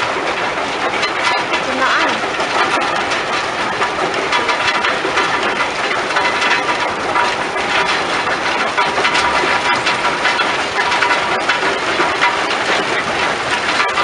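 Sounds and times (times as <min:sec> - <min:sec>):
rock crushing machinery rattling: 0:00.0 - 0:14.0.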